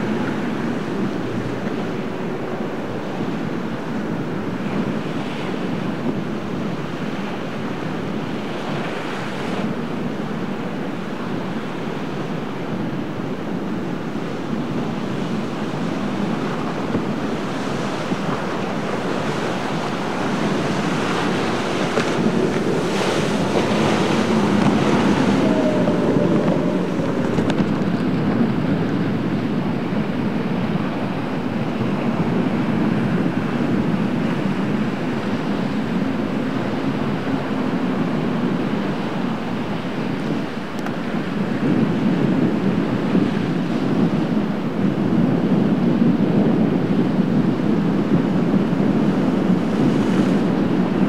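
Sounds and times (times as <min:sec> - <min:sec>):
waves breaking: 0:00.0 - 0:51.0
wind buffeting microphone: 0:00.0 - 0:51.0.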